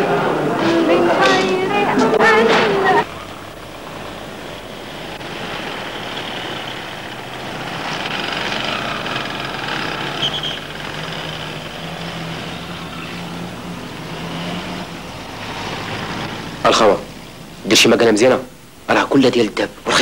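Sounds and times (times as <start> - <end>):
motor vehicles passing: 0.0 - 18.0.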